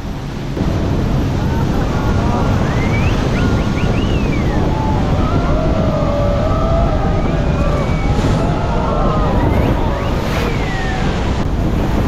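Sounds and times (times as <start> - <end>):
rushing water: 0.0 - 12.0
wind buffeting microphone: 0.0 - 12.0
passengers yelling: 0.6 - 12.0.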